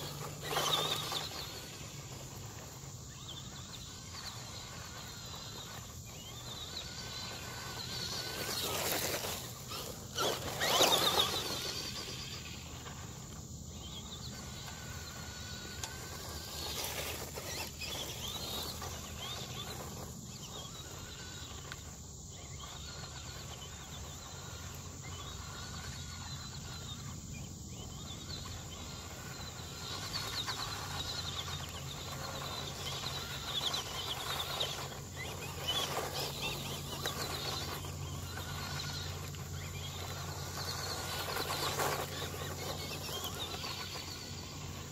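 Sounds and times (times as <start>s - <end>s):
small electric motor whining: 0.0s - 44.9s.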